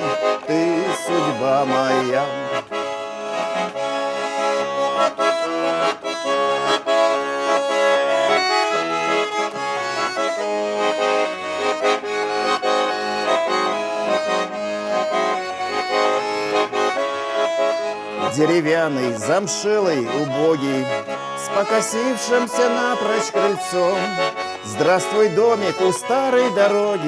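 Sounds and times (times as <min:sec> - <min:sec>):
accordion playing melody: 0:00.0 - 0:27.0.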